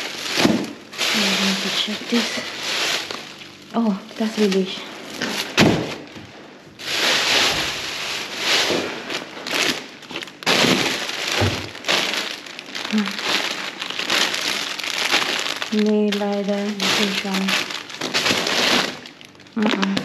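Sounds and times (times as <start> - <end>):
plastic packaging crinkling: 0.0 - 20.0.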